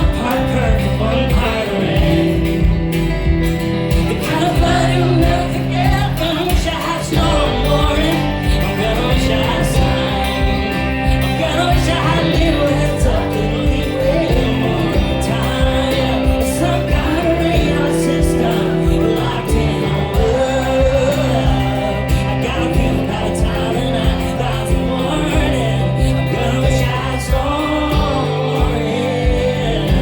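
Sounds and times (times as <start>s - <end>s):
live country-pop band: 0.0s - 30.0s
man singing: 0.0s - 30.0s.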